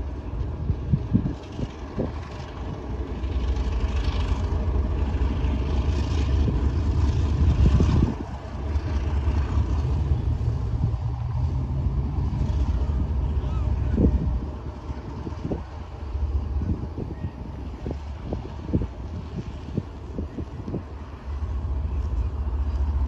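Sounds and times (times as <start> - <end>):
locomotive engine rumble: 0.0 - 23.0.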